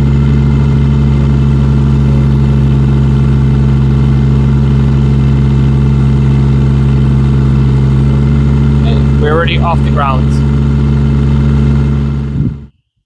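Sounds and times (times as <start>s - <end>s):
diesel engine under load: 0.0s - 12.7s.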